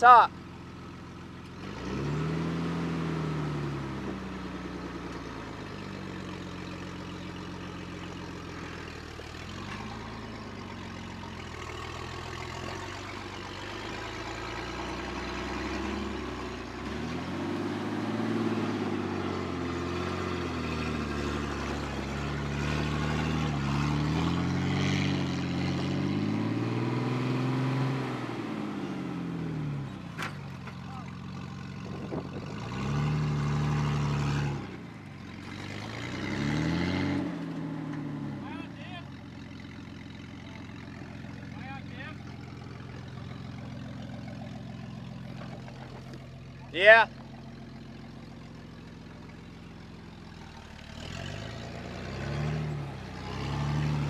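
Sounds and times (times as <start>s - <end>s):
engine revving: 1.4s - 54.0s.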